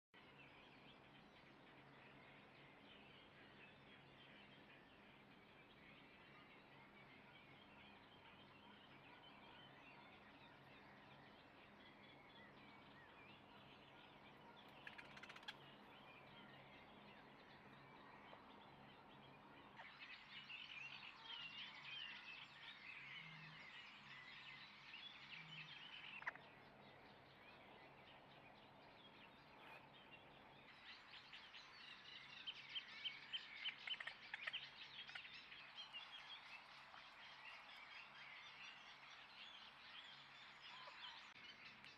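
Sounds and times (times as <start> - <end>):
high twittering chirp calls: 0.4 - 41.9.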